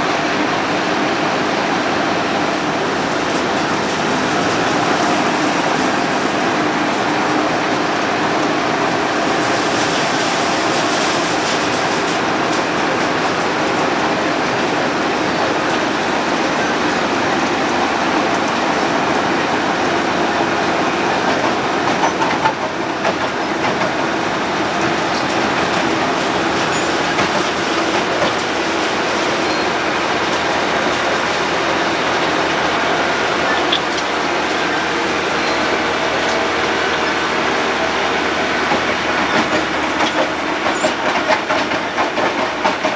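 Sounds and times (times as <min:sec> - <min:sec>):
road planer grinding asphalt: 0:00.0 - 0:42.9.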